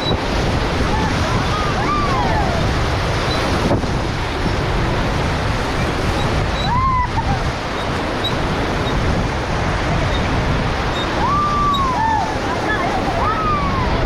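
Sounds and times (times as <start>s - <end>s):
river rapids rushing: 0.0s - 14.0s
wind buffeting microphone: 0.0s - 14.0s.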